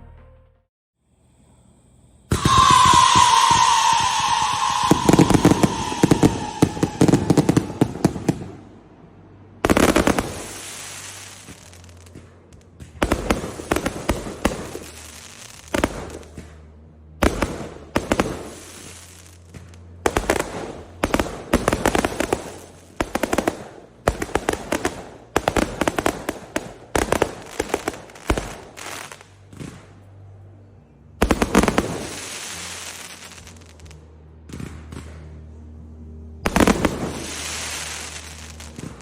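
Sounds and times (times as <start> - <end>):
fireworks bangs and cracks: 2.3 - 8.8, 9.6 - 30.1, 31.2 - 35.4, 36.5 - 39.0.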